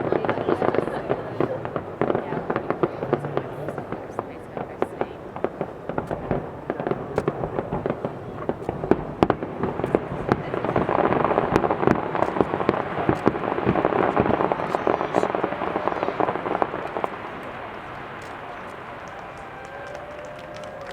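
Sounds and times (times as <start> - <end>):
fireworks crackling: 0.0 - 20.9.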